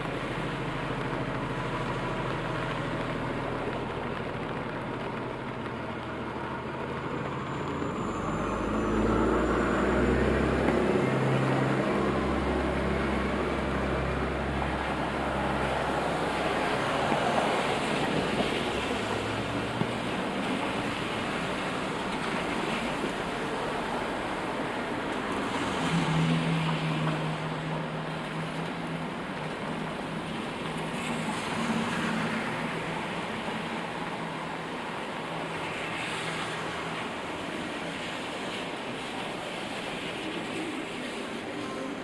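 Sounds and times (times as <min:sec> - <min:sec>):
heavy vehicle engine rumble: 0:00.0 - 0:42.0
rain and tyres hissing: 0:00.0 - 0:42.0.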